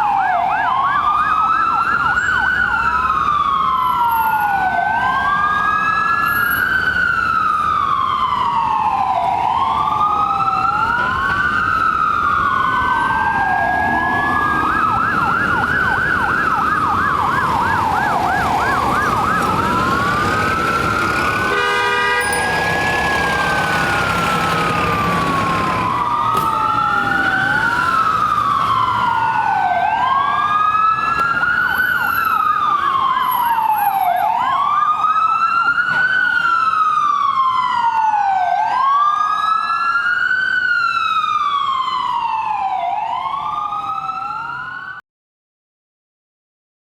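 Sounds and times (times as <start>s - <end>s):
ambulance siren wailing and yelping: 0.0s - 45.0s.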